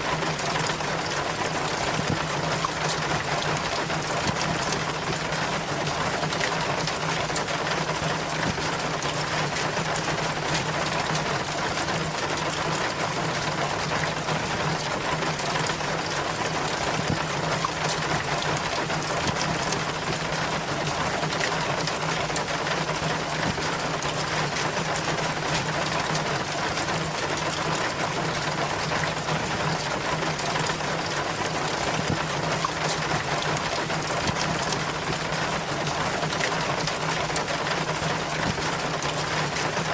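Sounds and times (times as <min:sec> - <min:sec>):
water running down rain chain: 0:00.0 - 0:39.9.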